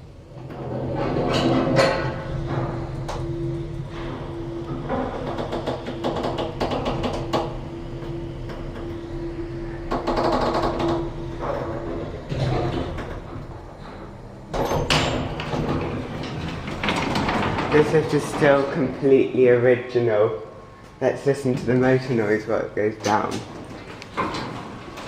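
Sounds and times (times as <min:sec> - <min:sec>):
sliding doors moving: 0:00.0 - 0:19.2, 0:23.4 - 0:25.0
lift hum: 0:00.0 - 0:22.2.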